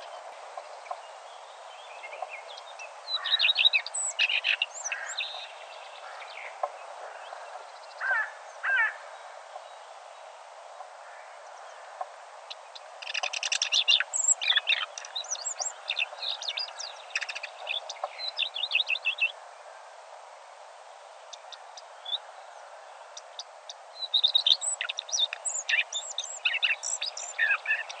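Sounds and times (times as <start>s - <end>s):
songbirds chirping and trilling: 0.0s - 28.0s
steady background hiss: 0.0s - 28.0s.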